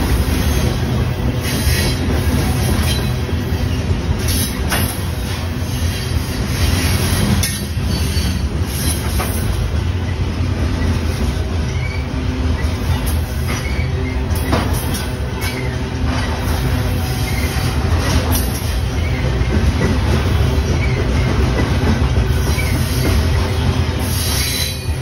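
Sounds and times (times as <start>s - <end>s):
freight train wheel rumble: 0.0s - 25.0s
wheels and couplings clicking: 0.7s - 12.0s, 12.6s - 25.0s.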